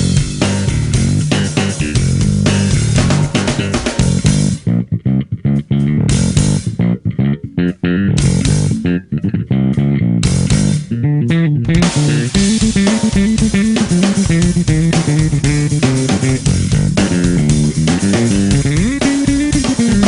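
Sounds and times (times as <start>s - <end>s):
drums: 0.0s - 4.8s, 5.6s - 7.1s, 8.1s - 9.0s, 9.7s - 20.0s
slapped electric bass riff: 0.0s - 20.0s.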